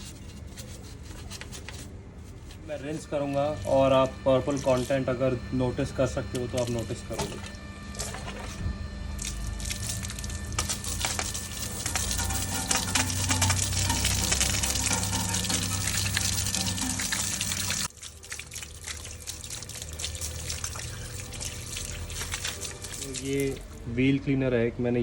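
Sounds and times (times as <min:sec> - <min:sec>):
water jet spraying: 0:02.7 - 0:23.8.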